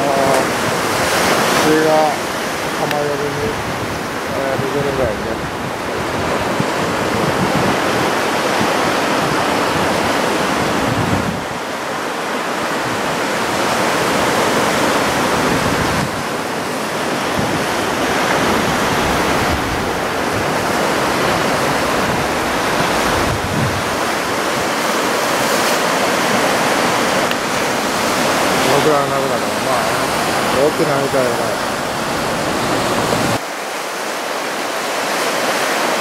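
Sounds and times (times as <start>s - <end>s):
ocean waves breaking: 0.0s - 36.0s.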